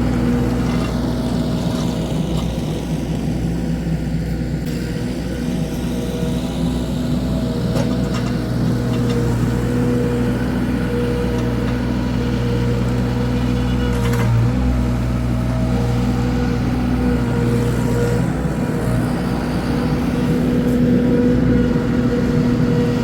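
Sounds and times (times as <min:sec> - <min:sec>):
diesel engine running under load: 0:00.0 - 0:23.0
high hydraulic whine: 0:00.0 - 0:23.0.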